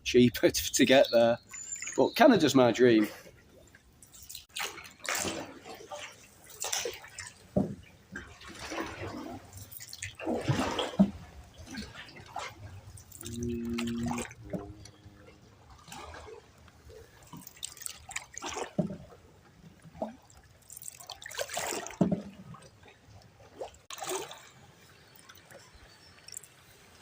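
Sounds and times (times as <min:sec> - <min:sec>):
paddle splashes in water: 0:03.0 - 0:15.0, 0:15.6 - 0:27.0.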